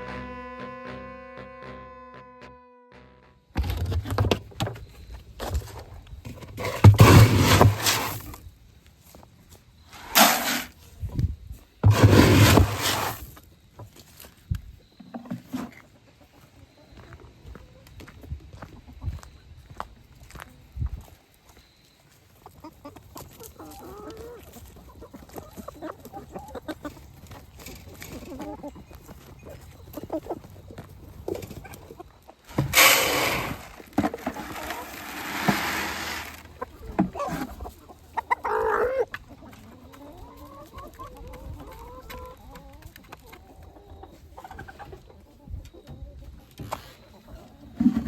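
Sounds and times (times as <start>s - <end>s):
chickens clucking: 3.6s - 21.1s, 22.0s - 48.0s.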